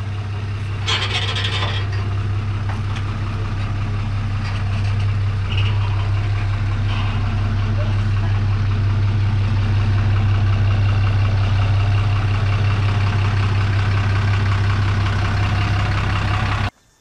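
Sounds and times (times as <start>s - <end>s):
pickup truck engine running: 0.0s - 16.7s.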